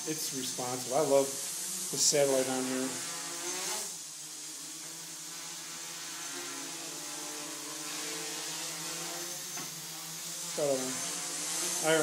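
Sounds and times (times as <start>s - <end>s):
quadcopter motors buzzing: 0.0s - 12.0s.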